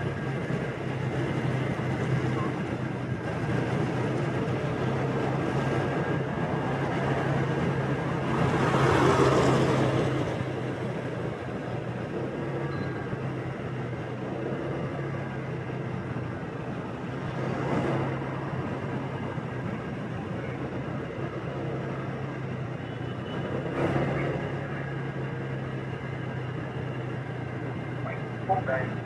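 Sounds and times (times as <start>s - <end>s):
vehicles passing: 0.0s - 29.0s
wind and road noise: 0.0s - 29.0s.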